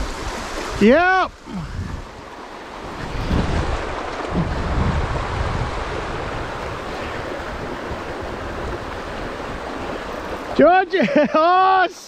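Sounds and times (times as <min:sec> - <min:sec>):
wind buffeting microphone: 0:00.0 - 0:10.6
river rushing over rapids: 0:00.0 - 0:12.0.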